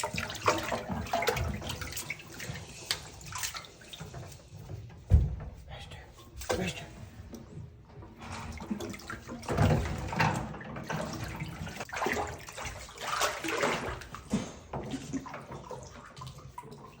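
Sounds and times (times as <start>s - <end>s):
water splashing in bathtub: 0.0s - 17.0s.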